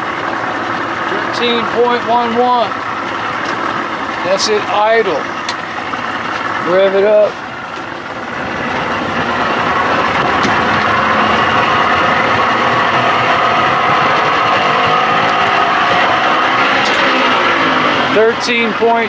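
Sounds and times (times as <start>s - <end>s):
outboard motor revving: 0.0s - 19.0s.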